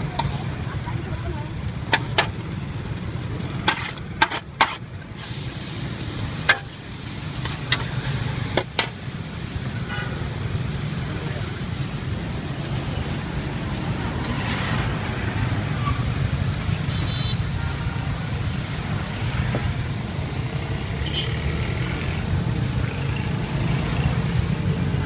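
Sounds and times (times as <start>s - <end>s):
passing traffic rumble: 0.0s - 25.0s.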